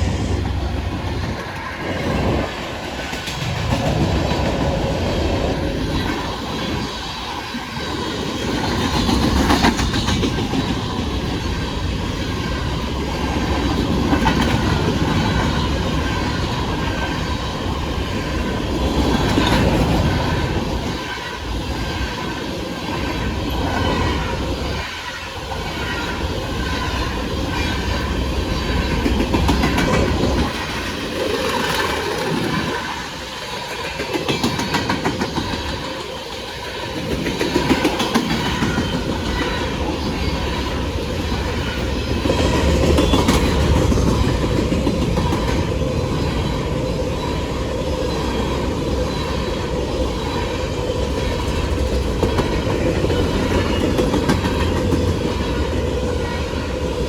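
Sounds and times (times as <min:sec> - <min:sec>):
train wheels clacking on rail joints: 0:00.0 - 0:47.4, 0:48.0 - 0:56.7
train rumble: 0:00.0 - 0:57.0.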